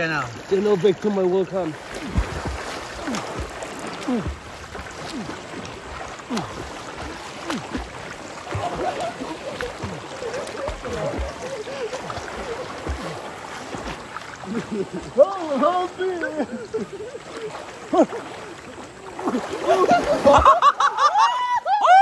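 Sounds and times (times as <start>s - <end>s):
water gurgling and splashing: 0.0s - 20.9s
river water rushing: 0.0s - 22.0s.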